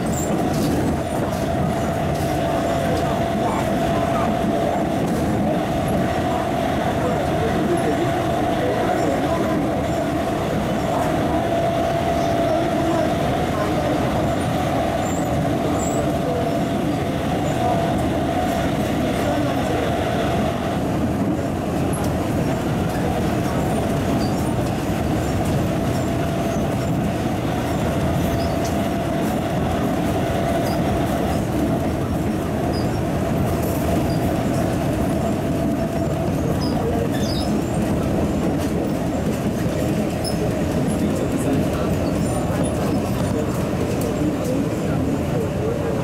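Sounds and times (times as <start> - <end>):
steady train whine: 0.0 - 46.0
train wheels rumbling on rails: 0.0 - 46.0.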